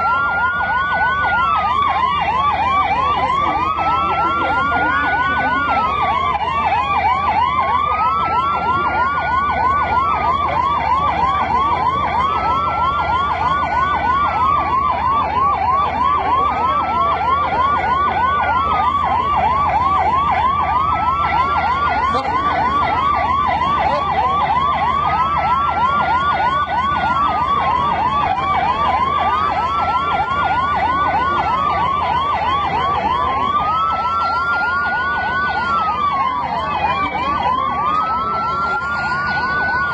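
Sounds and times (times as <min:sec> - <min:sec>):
siren wailing: 0:00.0 - 0:39.9
siren yelping: 0:00.0 - 0:39.9.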